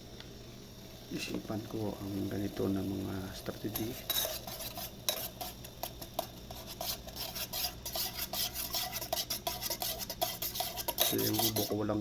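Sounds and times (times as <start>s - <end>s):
spoon stirring in a pot: 1.9s - 12.0s.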